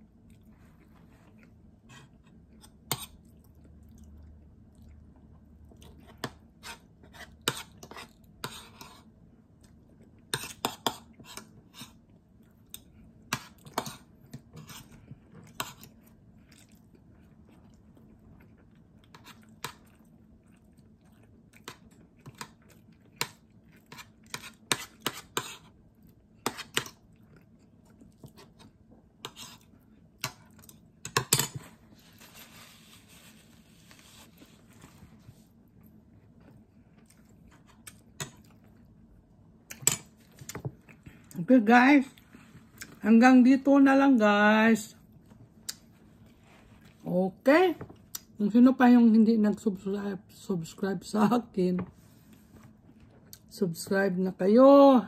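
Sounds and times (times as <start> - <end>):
person chewing food: 0.0 - 41.4, 42.1 - 43.0, 45.1 - 47.0.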